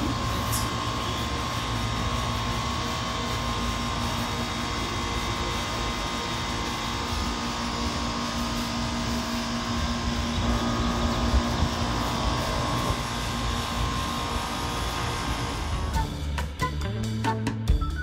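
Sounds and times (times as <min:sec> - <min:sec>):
air conditioner humming: 0:00.0 - 0:16.6.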